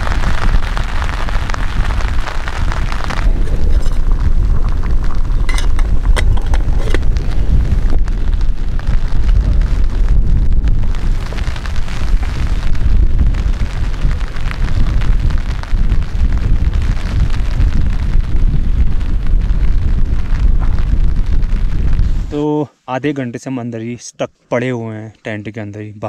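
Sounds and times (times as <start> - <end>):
strong wind buffeting microphone: 0.0 - 22.5
rain on tent fabric: 0.0 - 23.8.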